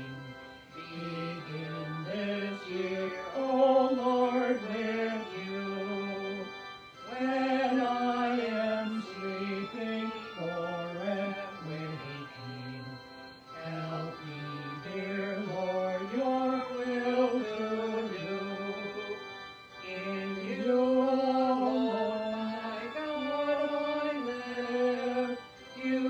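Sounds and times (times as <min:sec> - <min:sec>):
hymn singing: 0:00.0 - 0:26.0.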